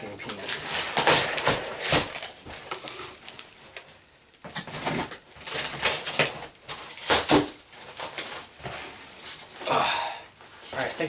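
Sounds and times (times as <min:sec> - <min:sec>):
foam packing peanuts rustling: 0:00.0 - 0:09.6.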